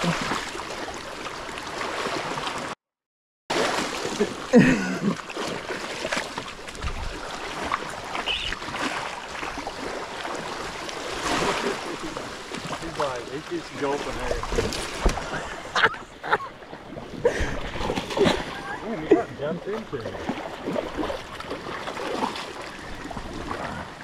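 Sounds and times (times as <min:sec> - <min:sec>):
water sloshing and splashing: 0:00.0 - 0:02.8, 0:03.5 - 0:24.0.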